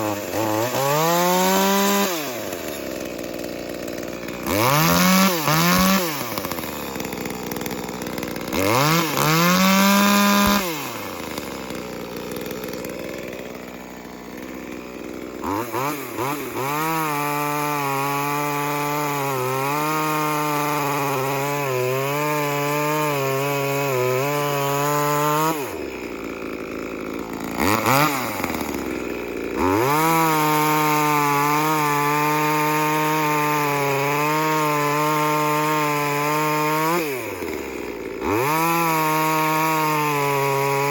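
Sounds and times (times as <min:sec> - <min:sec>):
chainsaw revving and cutting: 0:00.0 - 0:40.9.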